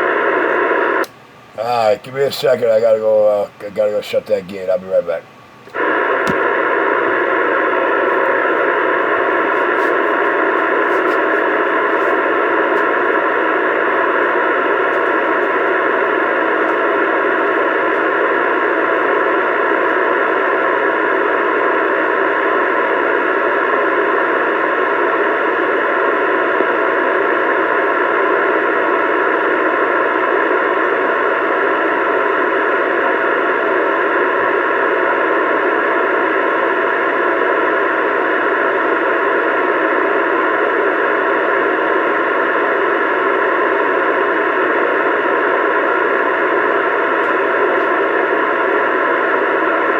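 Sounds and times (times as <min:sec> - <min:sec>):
radio static hiss: 0:00.0 - 0:49.9.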